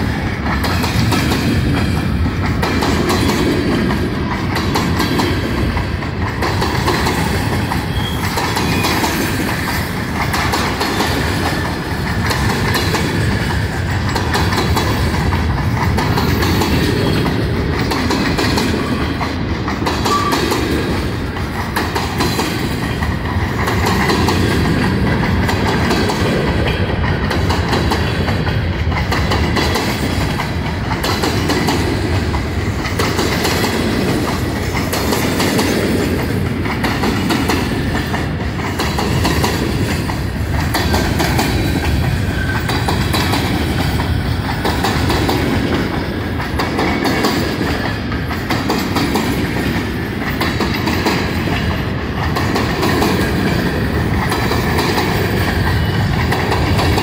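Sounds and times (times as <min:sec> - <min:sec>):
freight train rumble and rattle: 0:00.0 - 0:57.0
wheels clicking over rail joints: 0:00.1 - 0:57.0.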